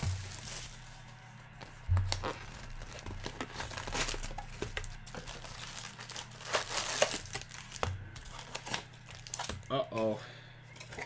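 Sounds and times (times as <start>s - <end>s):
foil packs crinkling: 0.0s - 10.1s.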